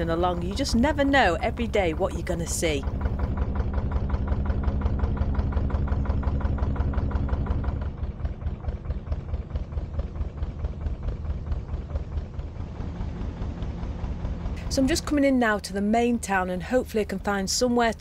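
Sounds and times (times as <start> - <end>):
boat engine running: 0.0 - 18.0
steady low hum: 0.0 - 18.0.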